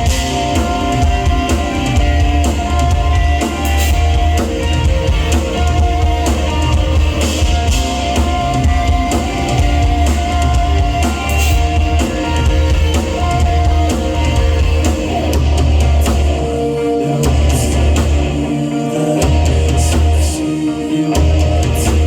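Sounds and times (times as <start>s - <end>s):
drum kit: 0.0s - 22.0s
guitar: 0.0s - 22.0s
heavy bass: 0.0s - 22.0s
live rock band playing: 0.0s - 22.0s.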